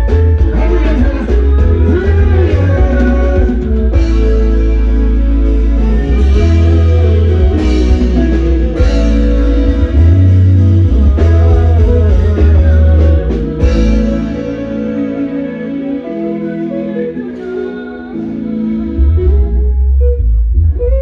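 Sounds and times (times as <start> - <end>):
loud band music: 0.0 - 19.9
heavy bass line: 0.0 - 21.0.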